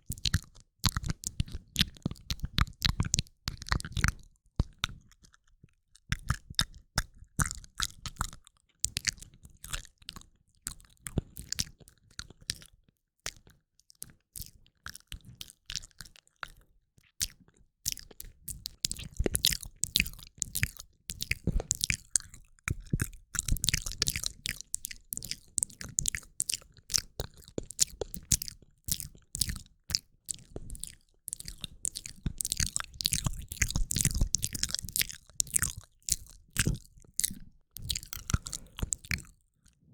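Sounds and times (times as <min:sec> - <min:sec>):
wet lip and tongue clicks: 0:00.0 - 0:12.7, 0:13.3 - 0:39.8.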